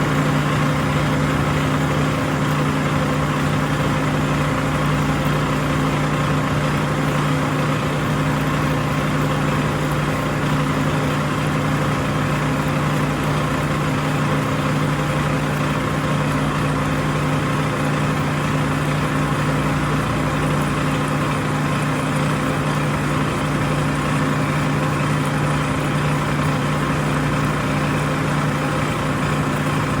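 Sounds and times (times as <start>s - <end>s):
milling machine drilling metal: 0.0s - 30.0s.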